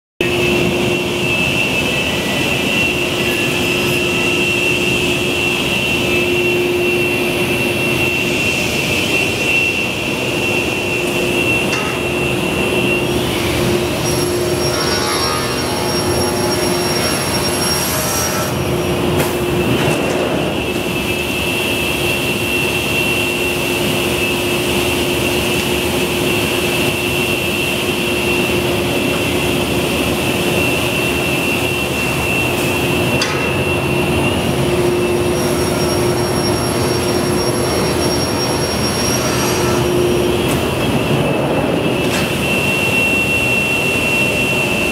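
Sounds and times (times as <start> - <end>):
woodworking machinery whining: 0.2 - 44.9
thin high whines: 0.3 - 44.9.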